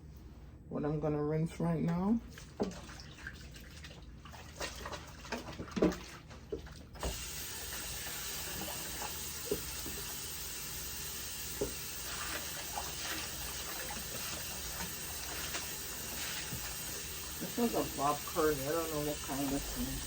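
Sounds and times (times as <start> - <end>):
tap water running: 1.9 - 20.0.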